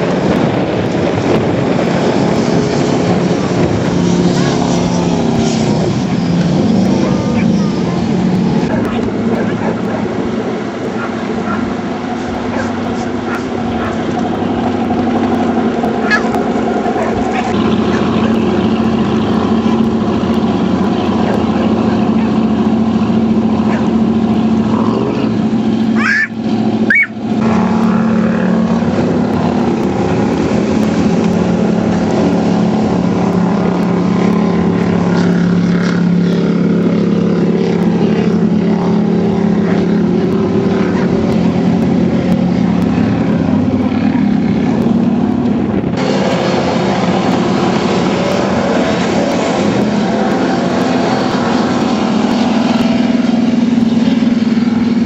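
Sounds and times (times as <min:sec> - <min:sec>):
jet boat engine running hard: 0:00.0 - 0:55.0.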